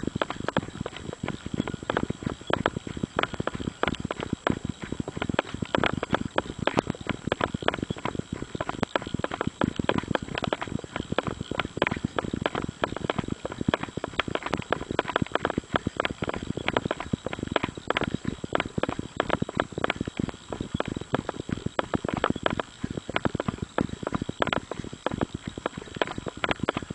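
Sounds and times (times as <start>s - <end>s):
running footsteps on gravel: 0.0s - 26.9s.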